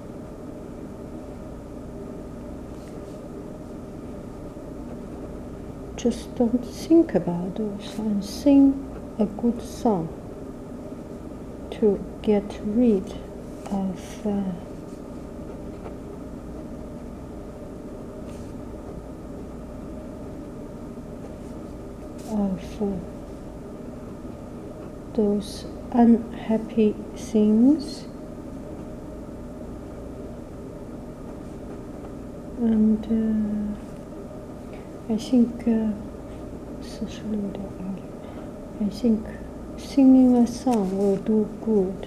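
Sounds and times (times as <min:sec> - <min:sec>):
motor humming with low rumble: 0:00.0 - 0:42.0.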